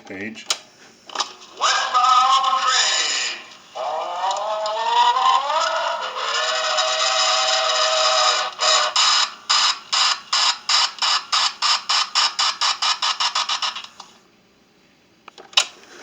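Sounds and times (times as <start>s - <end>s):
electronic locomotive chuffing: 1.1s - 14.0s.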